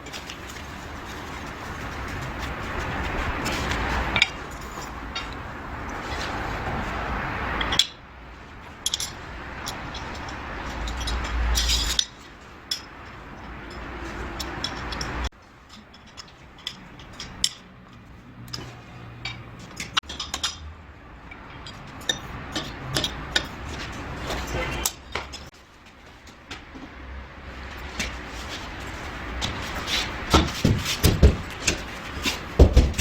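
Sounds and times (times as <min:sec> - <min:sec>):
steady background noise: 0:00.0 - 0:33.0.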